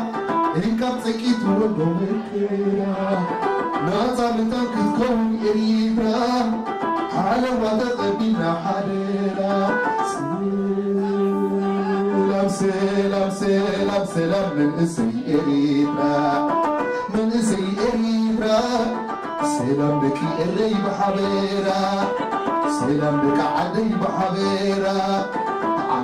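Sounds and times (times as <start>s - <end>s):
live band music: 0.0s - 26.0s
man singing: 0.0s - 26.0s.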